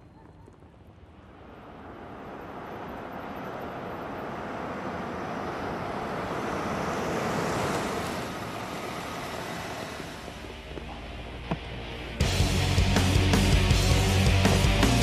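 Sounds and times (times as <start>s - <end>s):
cars driving: 1.0s - 15.0s.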